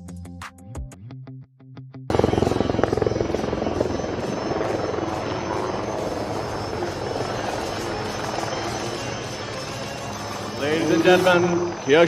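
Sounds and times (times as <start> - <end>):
helicopter rotor chop: 2.1 - 12.0
turbine engine whine: 2.1 - 12.0.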